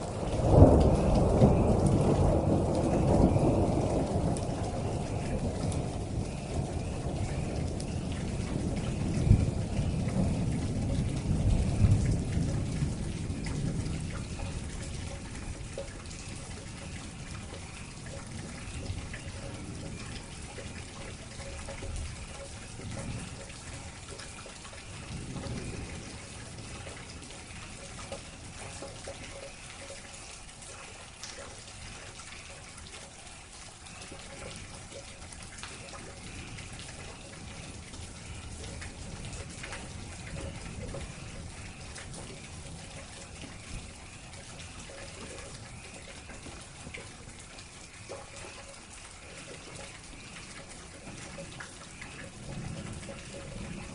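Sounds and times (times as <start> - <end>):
low thunder rumble: 0.0 - 29.6, 34.0 - 53.9
steady rain falling: 0.0 - 53.9
water drips: 0.0 - 53.9.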